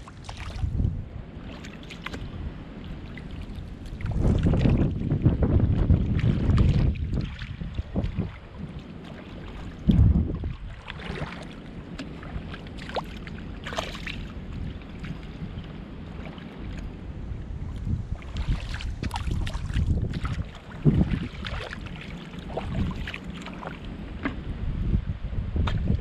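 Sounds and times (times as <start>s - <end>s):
shallow water sloshing and splashing: 0.0s - 24.5s
wind rumble on microphone: 0.0s - 26.0s.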